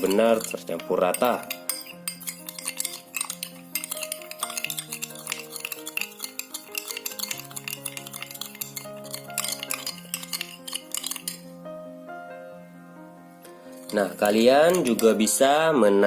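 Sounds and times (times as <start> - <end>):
spoon clinking against glass: 0.0 - 11.5, 13.8 - 15.3
background music: 0.0 - 16.0.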